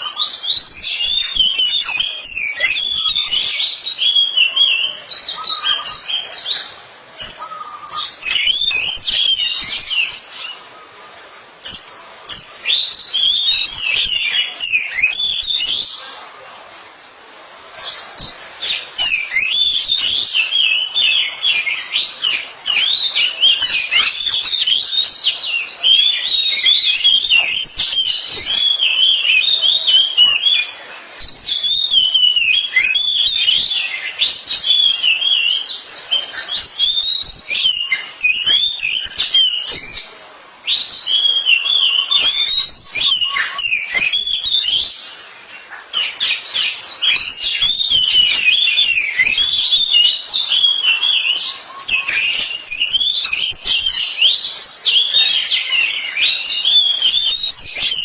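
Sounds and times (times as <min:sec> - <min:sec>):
birds singing whistled notes: 0:00.0 - 0:16.4, 0:17.7 - 0:58.0.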